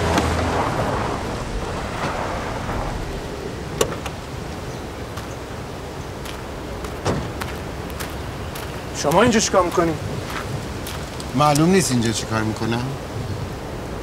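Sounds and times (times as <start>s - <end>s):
car engine and tyres rumbling: 0.0s - 12.2s.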